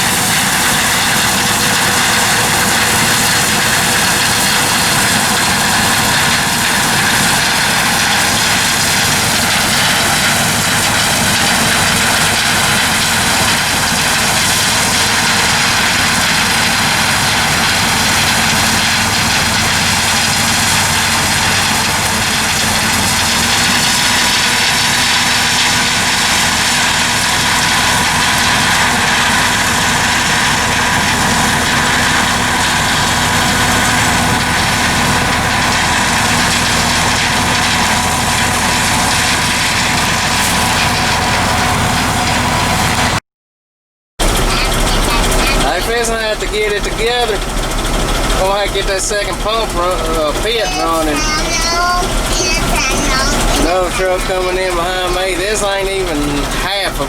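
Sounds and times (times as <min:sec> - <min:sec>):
heavy engines and machinery droning: 0:00.0 - 0:43.2, 0:44.2 - 0:57.0.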